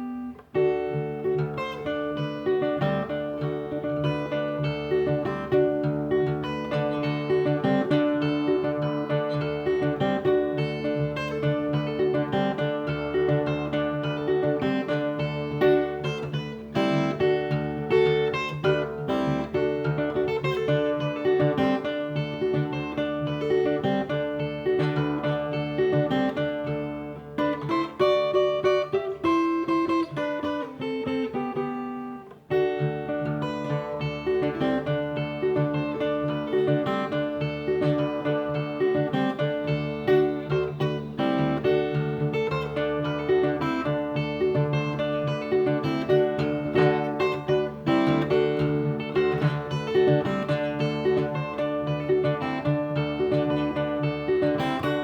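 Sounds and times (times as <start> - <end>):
fingerpicked acoustic guitar: 0.0 - 55.0.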